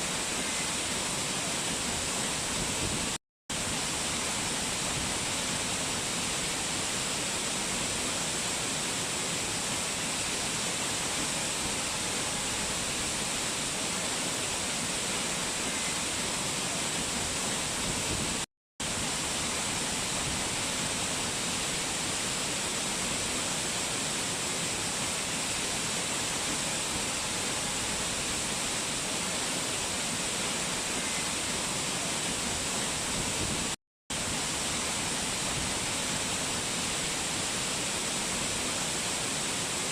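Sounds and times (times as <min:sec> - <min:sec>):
fast-flowing mountain water: 0:00.0 - 0:39.9.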